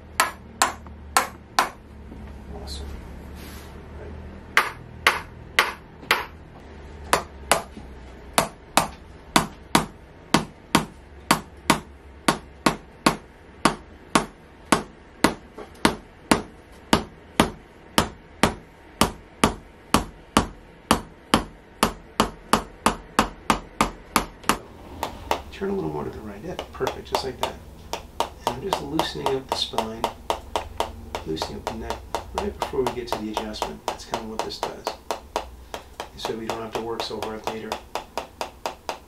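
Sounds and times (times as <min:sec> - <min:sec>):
mallet tapping a wedge: 0:00.0 - 0:01.8, 0:04.6 - 0:06.4, 0:07.1 - 0:07.7, 0:08.4 - 0:39.0.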